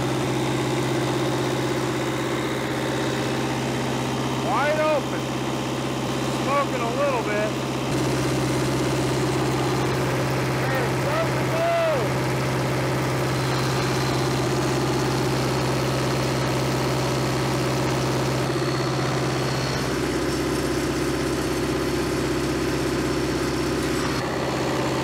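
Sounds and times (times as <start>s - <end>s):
diesel generator engine running: 0.0s - 25.0s.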